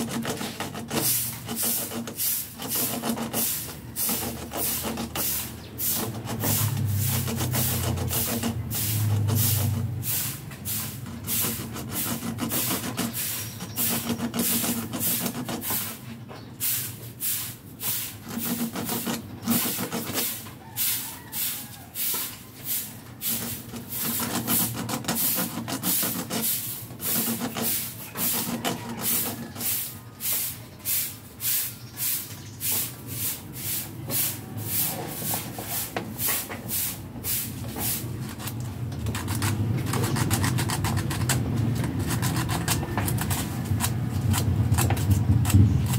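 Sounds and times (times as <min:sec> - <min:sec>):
rhythmic scraping strokes: 0:00.0 - 0:45.9.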